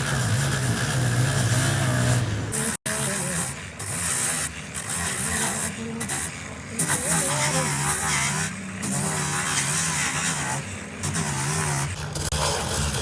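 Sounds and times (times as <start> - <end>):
heavy engine humming: 0.0 - 13.0.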